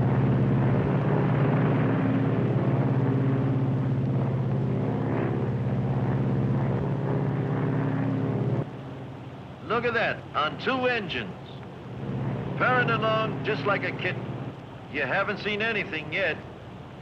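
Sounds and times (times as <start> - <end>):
piston aircraft engines droning: 0.0 - 17.0.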